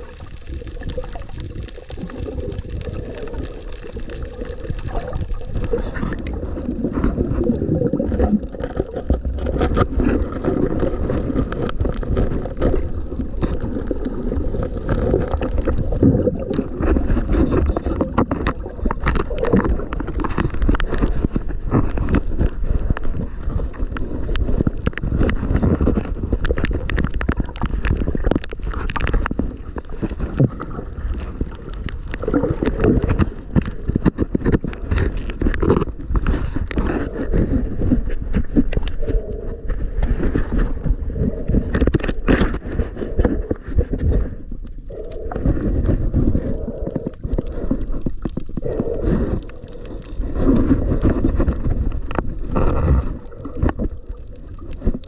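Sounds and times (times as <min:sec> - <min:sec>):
bubbling: 0:00.0 - 0:55.0
muffled underwater water movement: 0:00.0 - 0:55.0
small clicks and crackles: 0:00.0 - 0:55.0.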